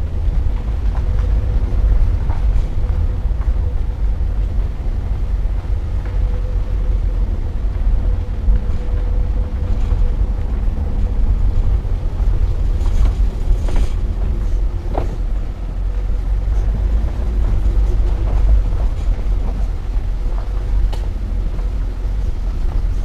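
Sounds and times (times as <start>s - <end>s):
car tyres rumbling on gravel: 0.0s - 23.0s.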